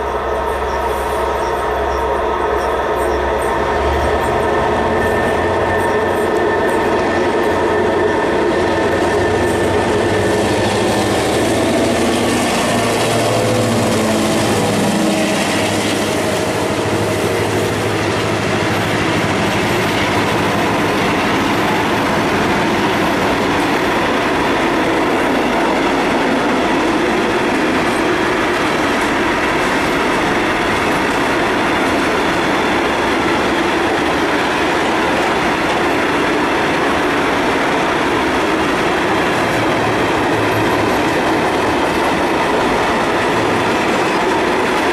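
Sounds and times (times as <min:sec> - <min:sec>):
diesel locomotive passing: 0:00.0 - 0:44.9.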